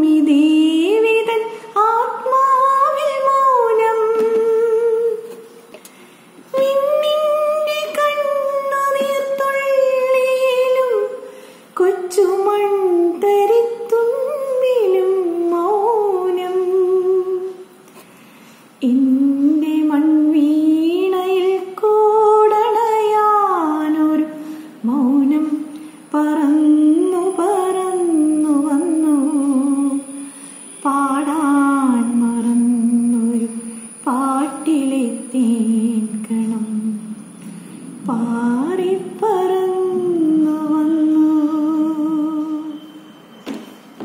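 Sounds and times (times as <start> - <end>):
woman singing unaccompanied: 0.0 - 5.5, 6.5 - 17.7, 18.8 - 30.2, 30.8 - 37.2, 38.0 - 42.8.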